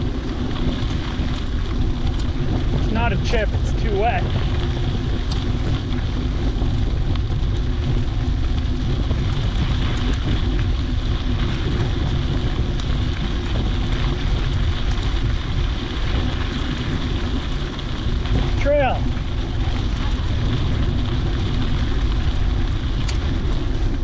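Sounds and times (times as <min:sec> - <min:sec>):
bike tyres rolling on dirt: 0:00.0 - 0:24.0
crackle of mud and grit: 0:00.0 - 0:24.0
wind buffeting the microphone: 0:00.0 - 0:24.0.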